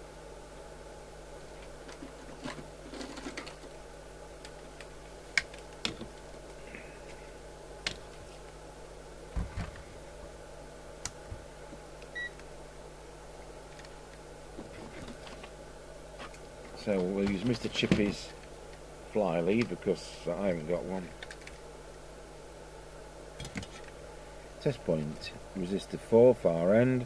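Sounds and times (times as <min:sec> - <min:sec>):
low mains hum: 0:00.0 - 0:27.0.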